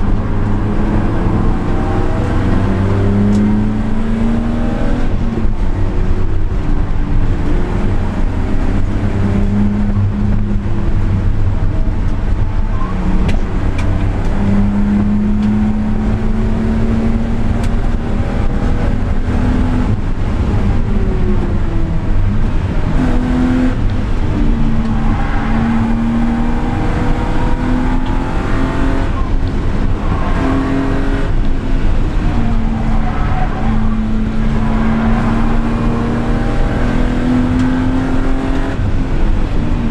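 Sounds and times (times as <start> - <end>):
car engine and exhaust revving: 0.0 - 39.9.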